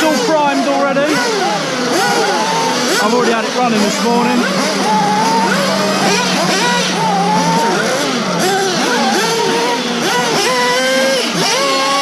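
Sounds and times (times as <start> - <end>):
rc car engines whining: 0.0 - 12.0.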